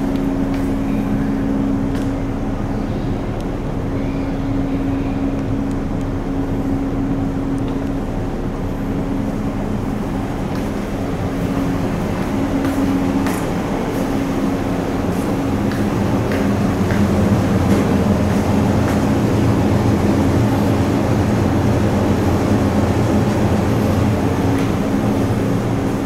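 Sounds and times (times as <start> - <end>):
ship engine drone: 0.0 - 26.0.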